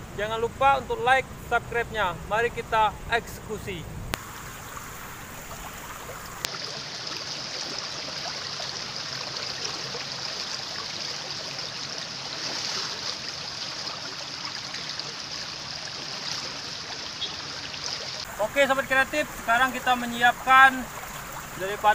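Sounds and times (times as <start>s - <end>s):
stream water rushing: 0.0s - 21.9s.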